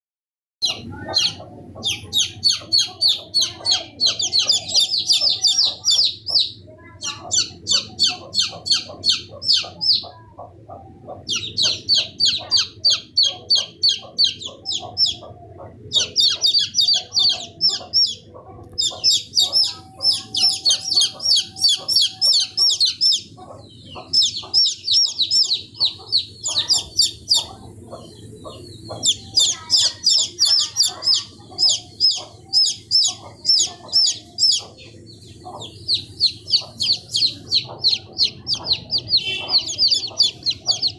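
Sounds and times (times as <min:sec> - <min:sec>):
chicks peeping: 0:00.6 - 0:40.9.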